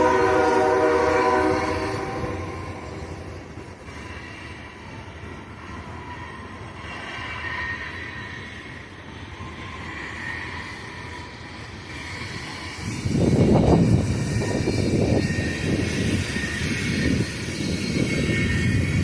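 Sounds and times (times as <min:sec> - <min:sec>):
distant freight train rumbling: 0:00.0 - 0:19.0.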